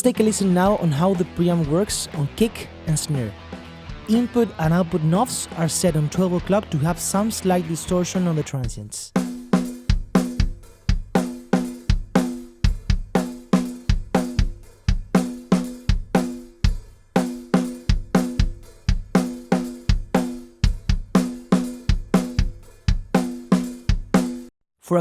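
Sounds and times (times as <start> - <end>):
acoustic drum kit groove: 0.0 - 24.5.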